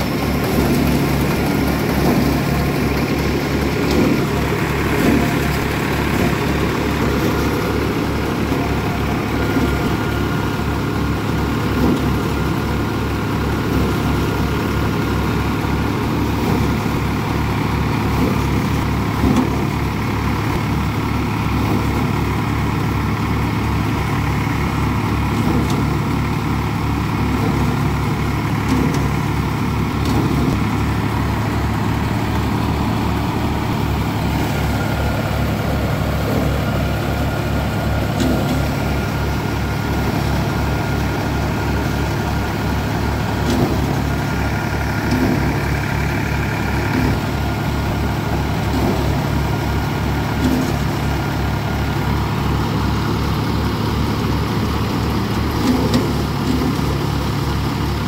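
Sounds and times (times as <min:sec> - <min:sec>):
thresher machinery whine: 0:00.0 - 0:58.0
tractor diesel engine running: 0:00.0 - 0:58.0.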